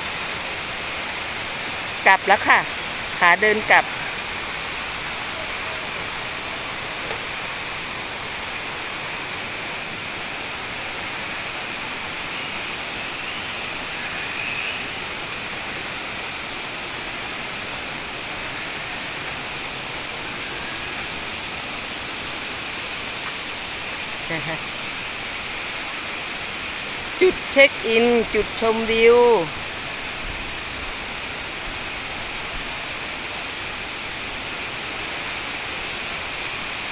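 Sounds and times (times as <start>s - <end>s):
stream running over rocks: 0.0s - 36.9s
waterfall rushing: 0.0s - 36.9s.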